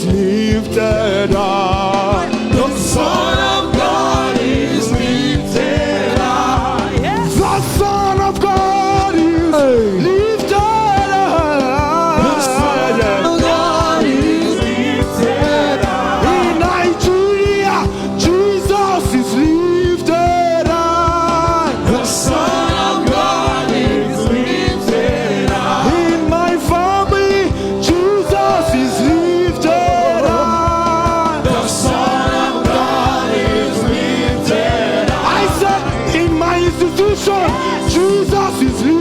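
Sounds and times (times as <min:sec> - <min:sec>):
person singing: 0:00.0 - 0:39.0
steady drum beat: 0:00.0 - 0:39.0
sustained chords: 0:00.0 - 0:39.0.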